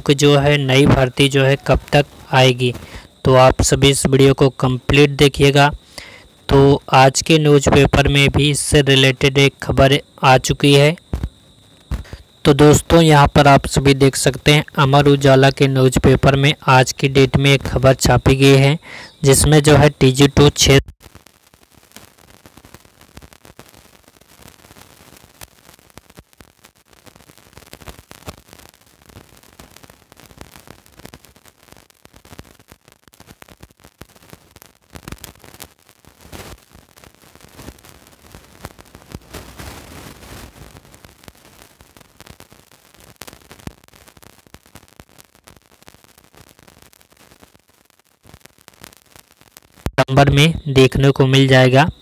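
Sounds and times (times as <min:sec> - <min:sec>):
crackling static hiss: 0:00.0 - 0:52.0.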